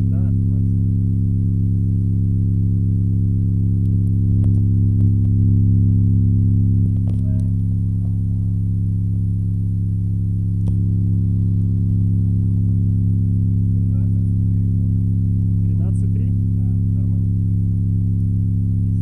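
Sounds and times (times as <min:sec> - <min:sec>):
deep subwoofer bass tone: 0:00.0 - 0:19.0.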